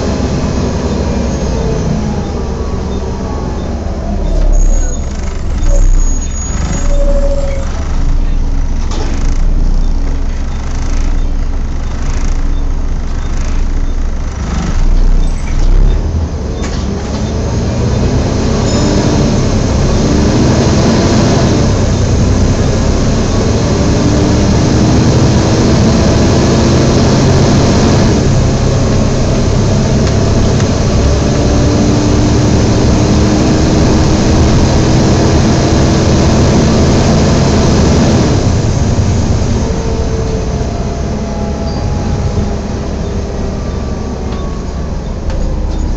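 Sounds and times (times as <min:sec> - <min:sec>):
diesel bus engine accelerating: 0:00.0 - 0:45.9
engine cooling fan whooshing: 0:07.8 - 0:45.9.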